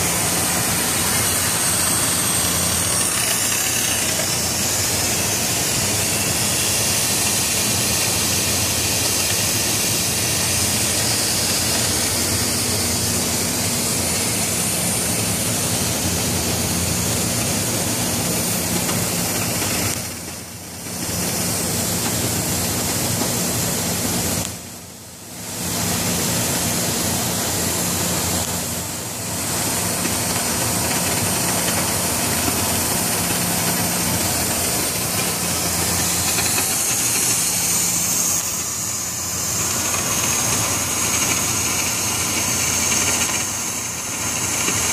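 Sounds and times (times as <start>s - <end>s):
loud hiss of flame cutting: 0.0s - 24.6s, 25.3s - 44.9s
low machinery hum: 0.0s - 44.9s.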